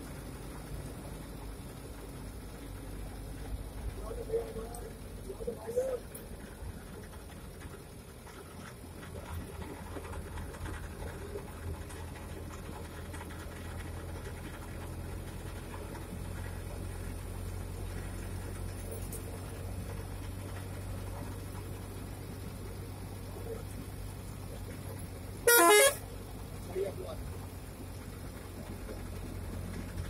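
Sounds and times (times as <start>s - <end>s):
vehicle engine hum and road noise: 0.0s - 30.0s.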